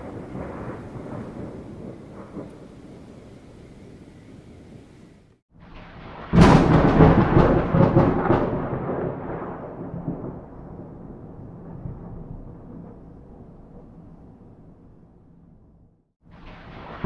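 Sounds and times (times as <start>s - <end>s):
thunder crack: 0.0s - 15.0s, 16.2s - 17.0s
rolling thunder rumble: 0.0s - 17.0s.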